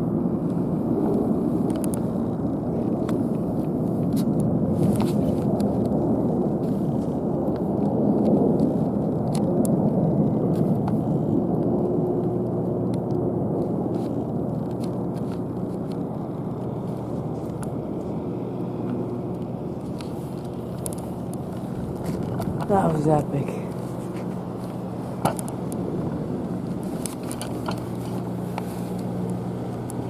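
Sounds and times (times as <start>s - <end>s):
military aircraft engine rumble: 0.0s - 30.0s.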